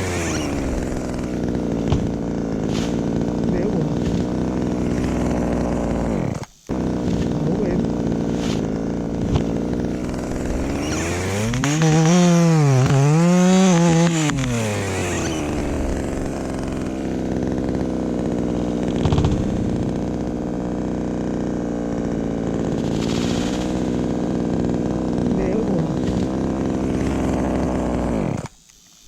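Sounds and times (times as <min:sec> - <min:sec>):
chainsaw idling and revving: 0:00.0 - 0:28.6.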